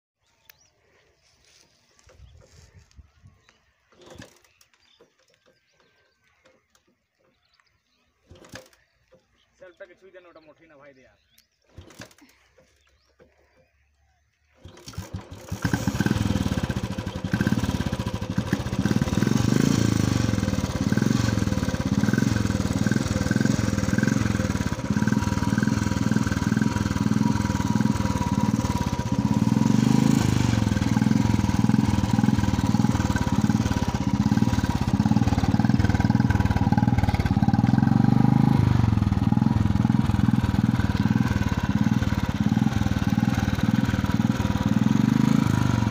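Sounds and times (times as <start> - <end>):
motorcycle engine starting and revving: 1.9 - 9.7, 11.2 - 45.9.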